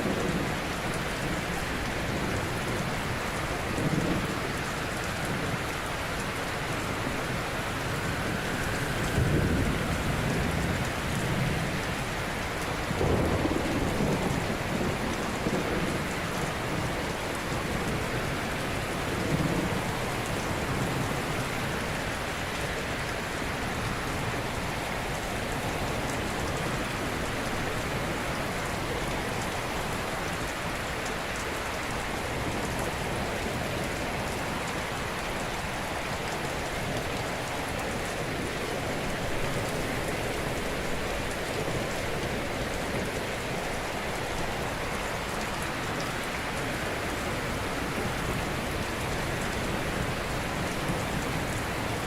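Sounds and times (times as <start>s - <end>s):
waves washing ashore: 0.0s - 52.0s.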